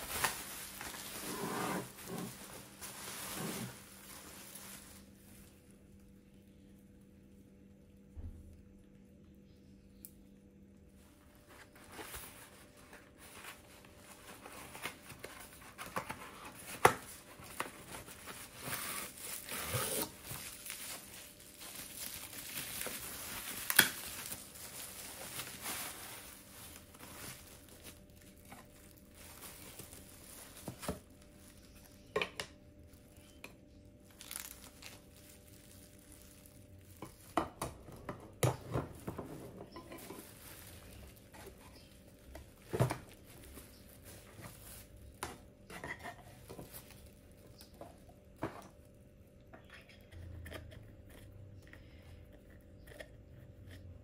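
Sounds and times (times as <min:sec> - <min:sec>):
bubble wrap and cardboard rustling: 0:00.0 - 0:08.6, 0:10.7 - 0:49.4.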